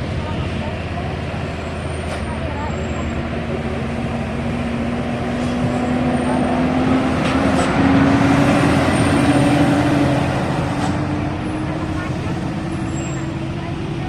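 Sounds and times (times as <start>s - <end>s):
heavy vehicle engine passing: 0.0s - 14.0s
traffic noise: 0.0s - 14.0s.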